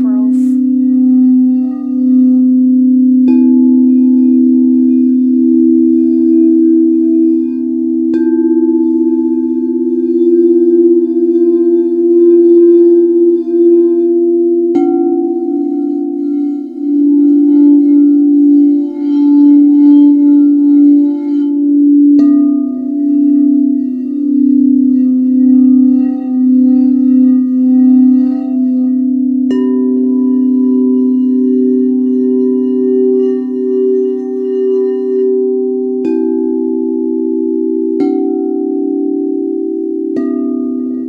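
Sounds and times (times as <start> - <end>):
singing bowls ringing: 0.0 - 41.0.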